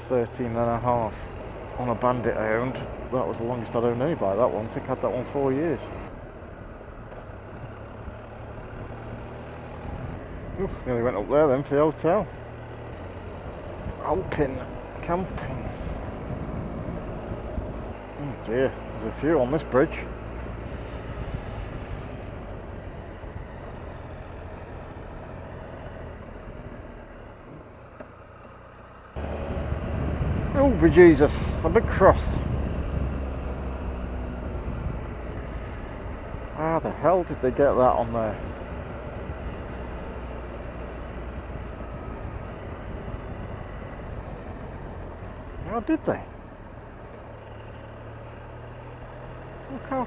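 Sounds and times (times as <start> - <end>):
motorcycle engine running: 0.0 - 50.0
wind and road rush: 0.0 - 50.0.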